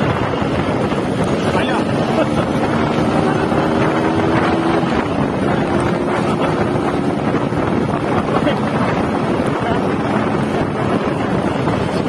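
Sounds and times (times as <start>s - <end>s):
two-stroke motorcycle engine: 0.0s - 12.0s
wind noise on microphone: 0.0s - 12.0s.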